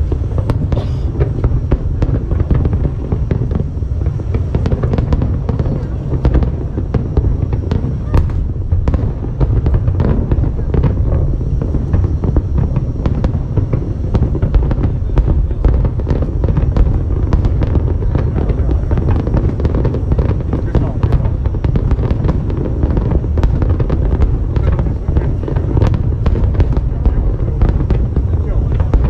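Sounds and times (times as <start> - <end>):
deep rumble of booms: 0.0 - 29.0
fireworks cracks and pops: 0.0 - 29.0.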